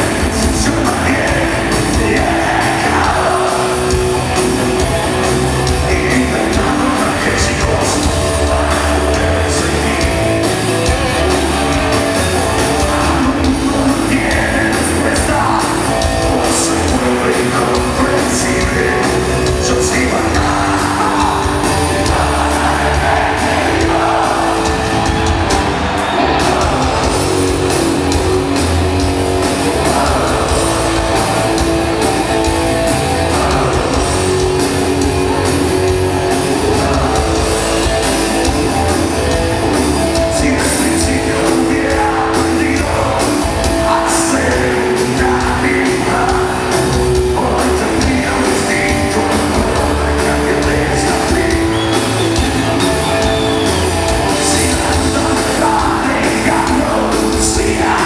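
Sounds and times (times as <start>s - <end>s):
man singing: 0.0s - 24.9s, 26.4s - 27.8s, 29.4s - 31.7s, 33.0s - 38.0s, 40.0s - 58.0s
drums: 0.0s - 58.0s
electric guitar: 0.0s - 58.0s.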